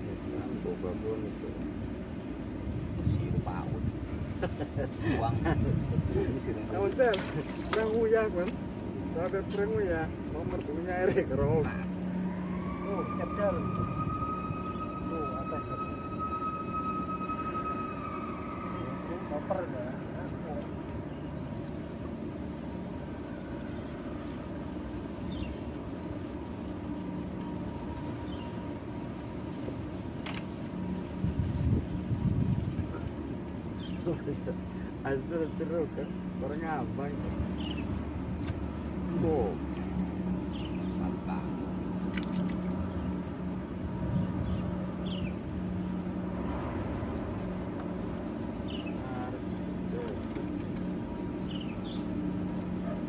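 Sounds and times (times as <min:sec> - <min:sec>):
distant engine rumble: 0:00.0 - 0:53.0
low mechanical hum: 0:00.0 - 0:53.0.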